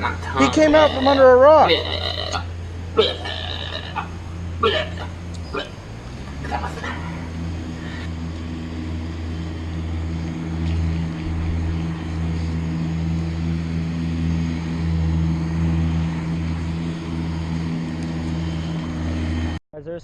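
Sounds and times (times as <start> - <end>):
low motor drone: 0.0 - 19.6.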